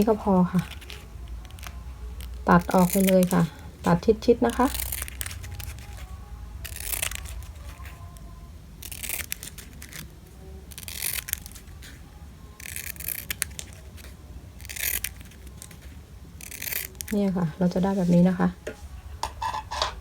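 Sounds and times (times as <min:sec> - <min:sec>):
scissors snipping ribbon: 0:00.0 - 0:10.1, 0:10.7 - 0:18.2.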